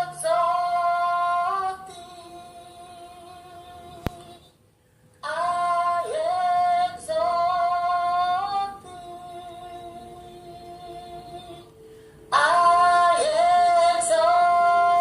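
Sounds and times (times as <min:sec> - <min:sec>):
woman singing a slow worship melody: 0:00.0 - 0:04.6, 0:05.2 - 0:15.0.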